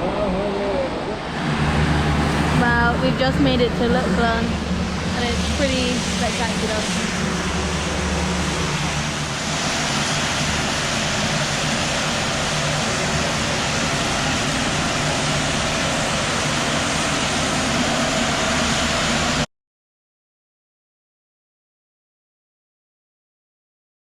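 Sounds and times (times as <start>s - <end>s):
loud rushing noise: 0.0s - 19.5s
low engine hum: 0.0s - 19.5s.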